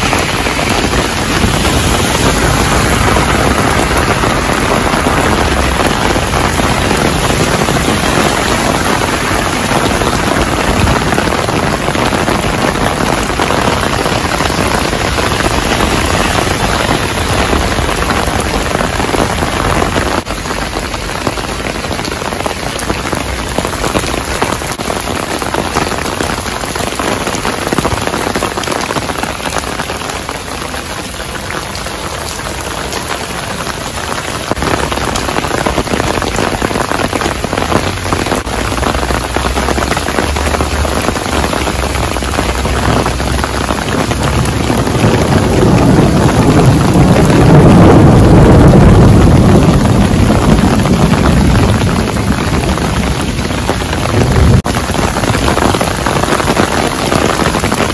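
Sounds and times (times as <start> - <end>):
heavy rain on pavement: 0.0 - 57.9.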